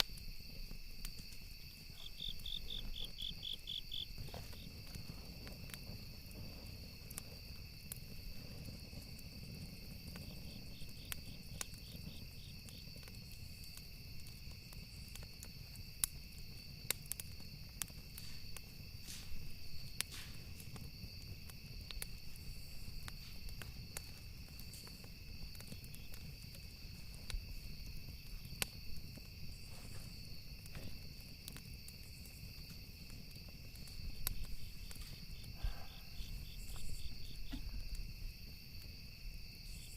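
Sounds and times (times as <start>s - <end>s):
campfire crackling and popping: 0.0s - 39.9s
crickets trilling: 0.0s - 39.9s
pulsing cricket chirp: 0.0s - 39.9s.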